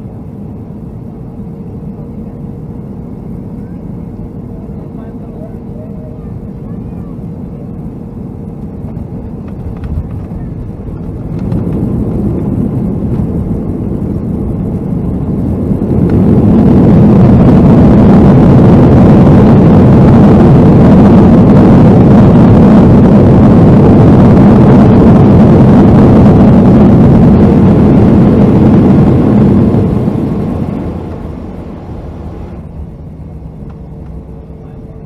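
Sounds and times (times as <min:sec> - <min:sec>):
jet engines rushing in cabin: 0:00.0 - 0:35.0.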